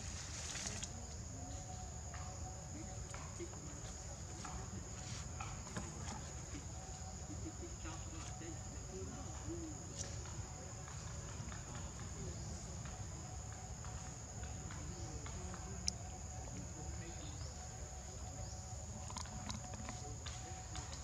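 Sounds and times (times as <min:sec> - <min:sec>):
insect chorus: 0:00.0 - 0:21.0.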